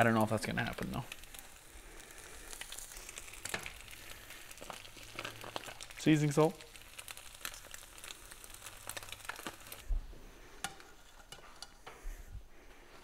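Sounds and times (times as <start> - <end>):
eggs sizzling in a pan: 0.0 - 13.0.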